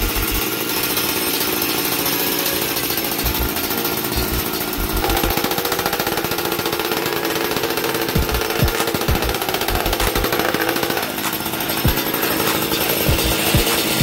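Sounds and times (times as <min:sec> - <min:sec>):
two-stroke engine idling: 0:00.0 - 0:14.0.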